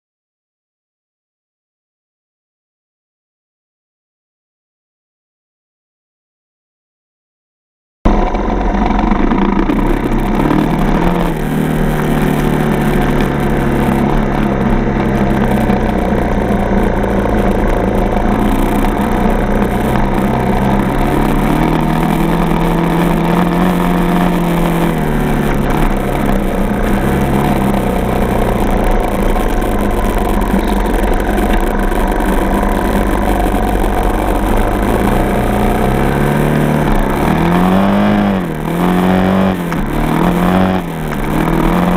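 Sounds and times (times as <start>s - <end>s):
dirt bike engine revving: 8.1s - 41.9s.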